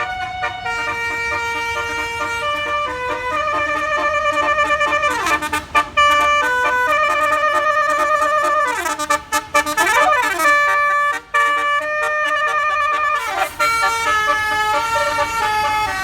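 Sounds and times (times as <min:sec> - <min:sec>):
musical air horn playing a tune: 0:00.0 - 0:16.0.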